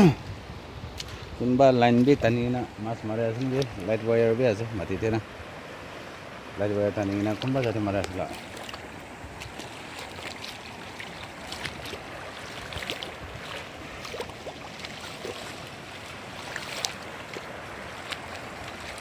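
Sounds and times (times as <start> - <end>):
stream running over stones: 0.0 - 19.0.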